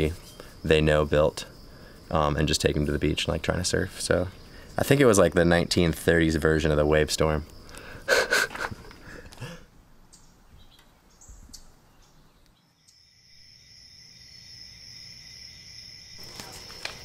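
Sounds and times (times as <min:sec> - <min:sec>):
crickets trilling: 0:00.0 - 0:10.3, 0:11.2 - 0:17.0.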